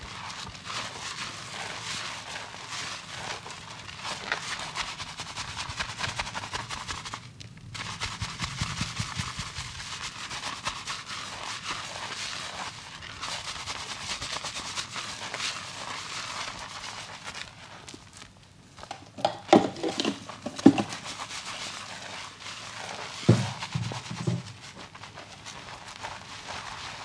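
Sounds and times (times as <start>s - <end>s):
fingers scrubbing lathered hair: 0.0s - 7.2s, 7.8s - 27.0s.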